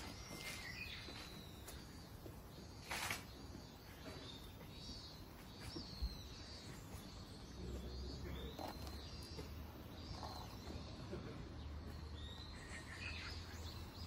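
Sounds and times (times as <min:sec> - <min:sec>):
bird chirping faintly: 0:00.0 - 0:14.0.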